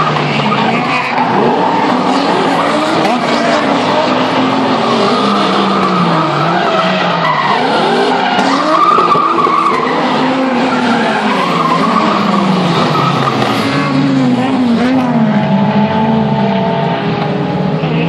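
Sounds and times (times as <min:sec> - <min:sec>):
car engines revving: 0:00.0 - 0:18.0
tyres skidding on tarmac: 0:00.0 - 0:18.0.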